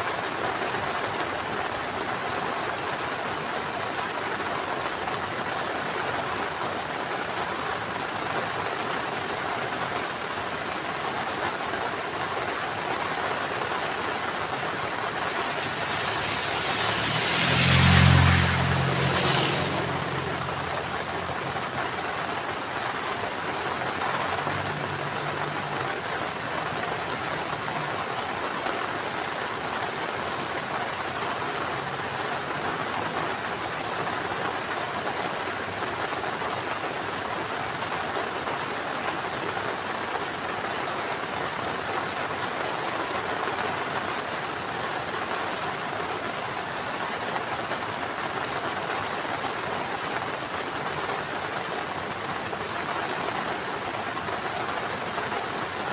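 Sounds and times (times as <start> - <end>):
heavy rain falling: 0.1 - 55.9.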